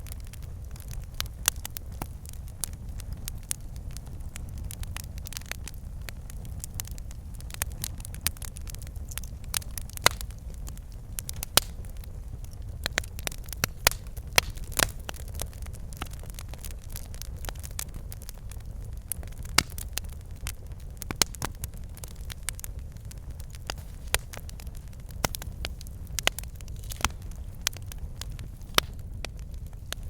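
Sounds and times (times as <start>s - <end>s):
logs crackling and popping: 0.0s - 30.0s
low rumble of flame: 0.0s - 30.0s.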